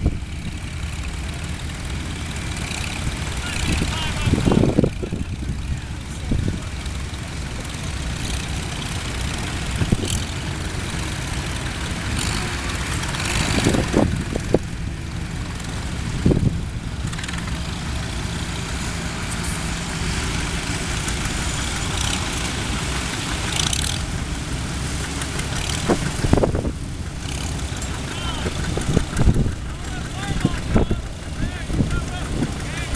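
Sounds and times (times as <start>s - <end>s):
tractor engines running: 0.0s - 32.9s.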